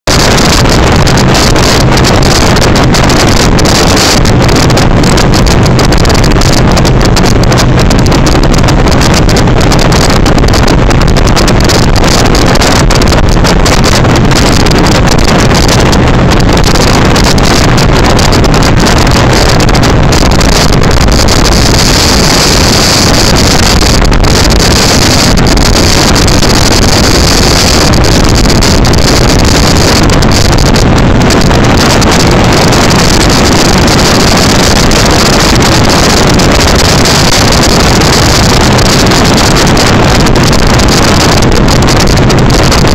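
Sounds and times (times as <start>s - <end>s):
motorcycle engine drone: 0.0s - 42.9s
wind rushing over microphone: 0.0s - 42.9s.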